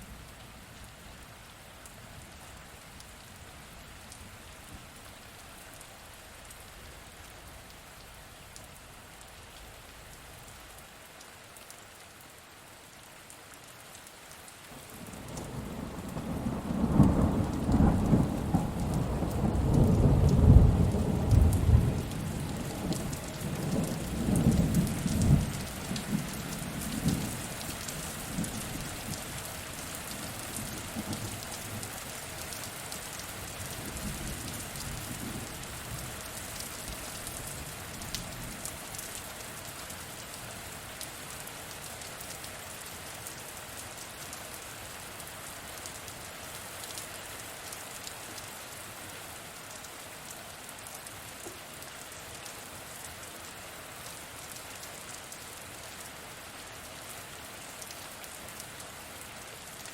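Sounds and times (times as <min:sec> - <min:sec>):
rain on hard surface: 0:00.0 - 0:59.9.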